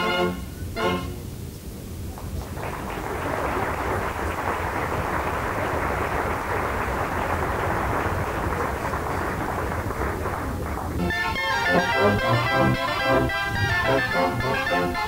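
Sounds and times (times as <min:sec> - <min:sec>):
audience applauding: 0:02.1 - 0:15.0.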